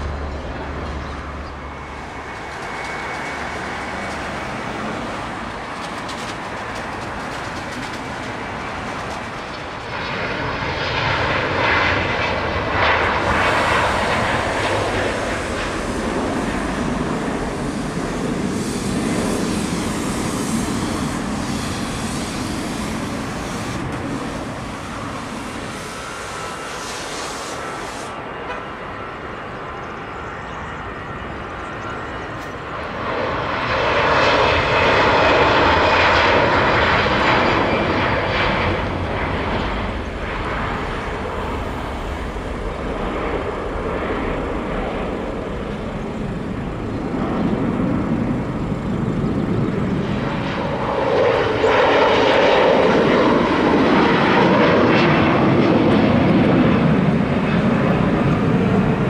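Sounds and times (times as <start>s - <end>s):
jet engines at takeoff: 0.0s - 59.0s.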